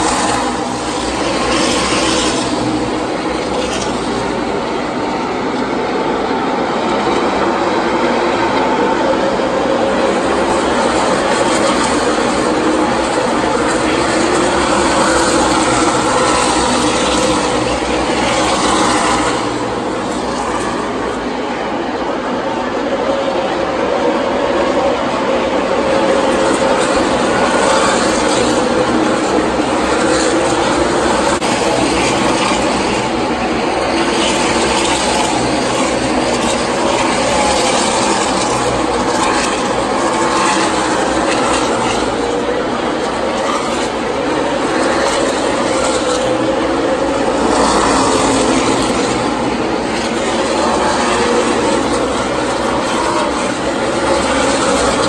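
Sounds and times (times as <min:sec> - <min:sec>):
race car engines droning: 0:00.0 - 0:55.0.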